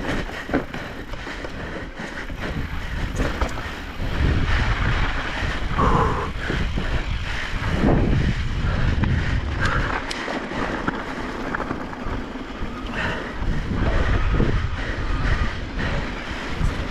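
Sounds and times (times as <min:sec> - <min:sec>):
tyres rolling on dirt trail: 0:00.0 - 0:16.9
wind rumbling on microphone: 0:00.0 - 0:16.9.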